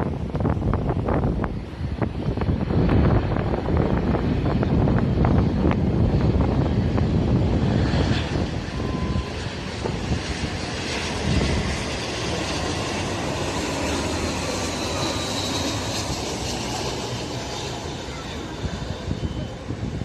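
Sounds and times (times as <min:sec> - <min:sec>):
faint high engine whine: 0:00.0 - 0:20.0
jet engines rushing: 0:00.0 - 0:20.0
wind on microphone: 0:00.0 - 0:20.0.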